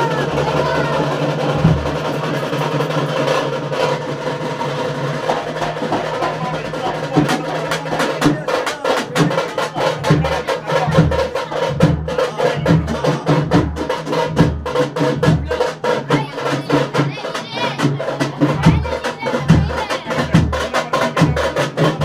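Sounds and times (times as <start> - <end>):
deep bass drum beats: 0.0 - 22.0
fast loud drumming: 0.0 - 22.0.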